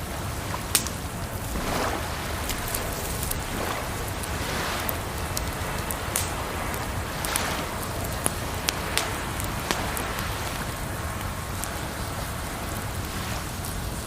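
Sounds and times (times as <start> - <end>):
rushing water: 0.0 - 14.0
water lapping: 0.0 - 14.0
wood fire crackling: 0.0 - 14.0.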